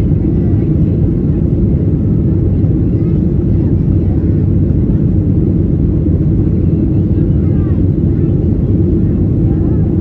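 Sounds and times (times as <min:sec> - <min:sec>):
jet engine cabin roar: 0:00.0 - 0:10.0.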